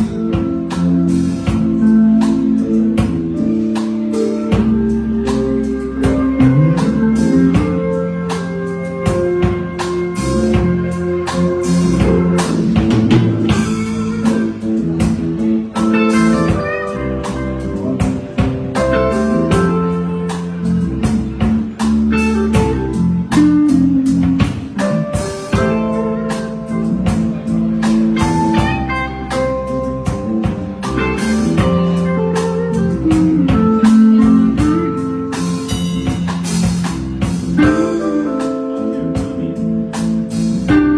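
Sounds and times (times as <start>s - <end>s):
drums keeping a beat: 0.0s - 40.9s
guitar music: 0.0s - 40.9s.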